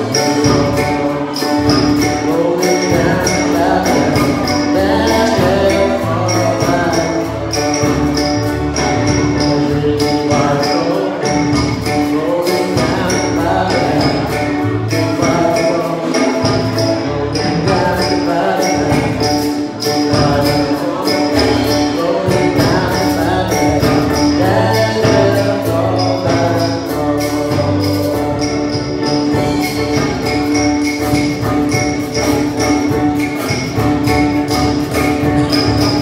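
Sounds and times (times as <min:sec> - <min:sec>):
drum kit beat: 0:00.0 - 0:36.0
keyboard playing held chords: 0:00.0 - 0:36.0.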